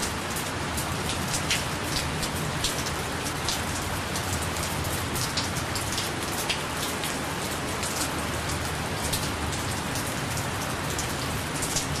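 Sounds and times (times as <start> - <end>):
raindrops striking close by: 0.0 - 12.0
steady rain falling: 0.0 - 12.0.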